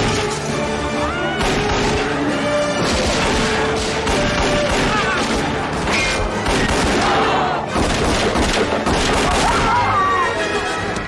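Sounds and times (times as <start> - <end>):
orchestral score: 0.0 - 11.0.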